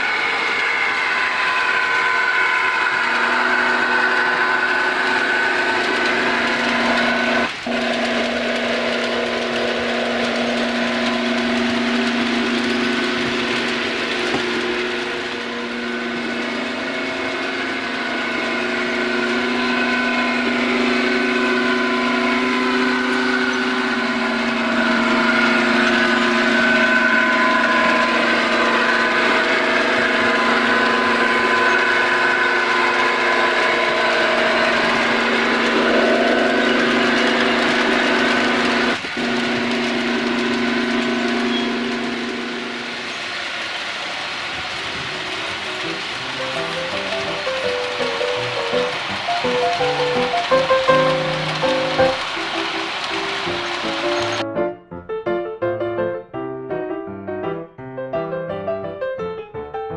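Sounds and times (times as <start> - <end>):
diesel engine running: 0.0 - 54.4.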